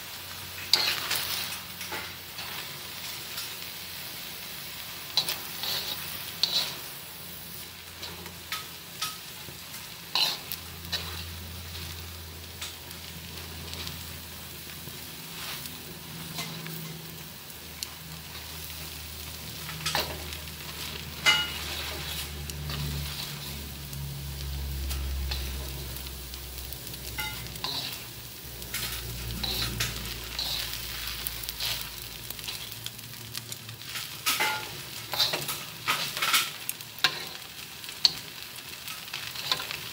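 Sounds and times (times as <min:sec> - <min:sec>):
noodles sizzling in a wok: 0:00.0 - 0:39.9.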